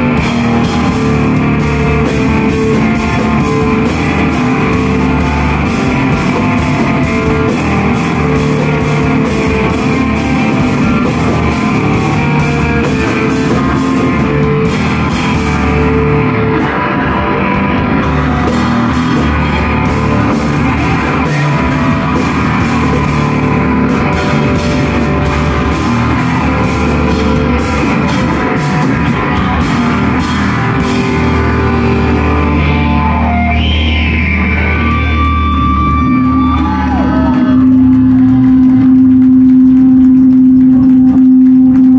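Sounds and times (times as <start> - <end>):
drum kit: 0.0 - 41.9
electric guitars: 0.0 - 41.9.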